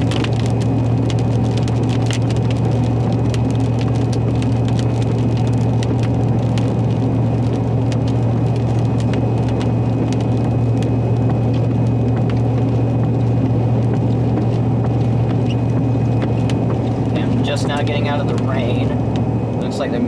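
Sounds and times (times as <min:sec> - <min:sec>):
raindrops ticking on windshield: 0:00.0 - 0:20.0
road and engine drone: 0:00.0 - 0:20.0.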